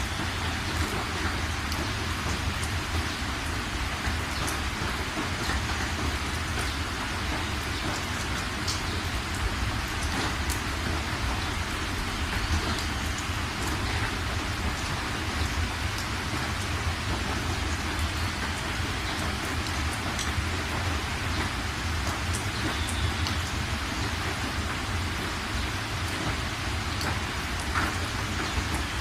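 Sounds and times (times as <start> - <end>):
rain hissing: 0.0 - 29.0
raindrop ticks: 0.0 - 29.0.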